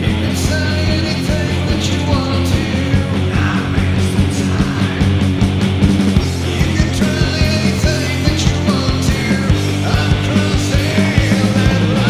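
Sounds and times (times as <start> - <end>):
rock music with drum beat: 0.0 - 12.0.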